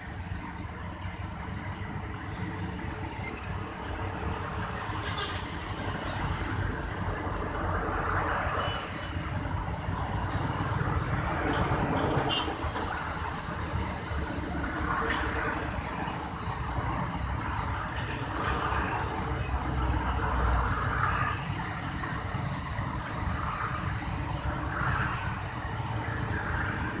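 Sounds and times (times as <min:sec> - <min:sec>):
excavator diesel engine rumbling: 0:00.0 - 0:27.0.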